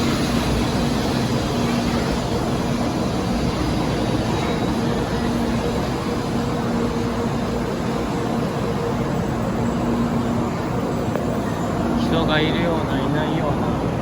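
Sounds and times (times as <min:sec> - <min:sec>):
train passing with rushing roar: 0:00.0 - 0:14.0.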